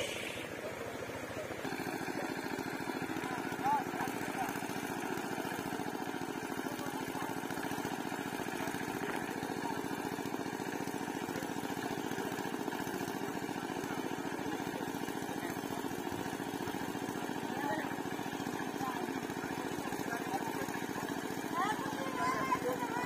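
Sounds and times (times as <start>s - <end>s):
small engine running steadily: 0.0s - 23.0s.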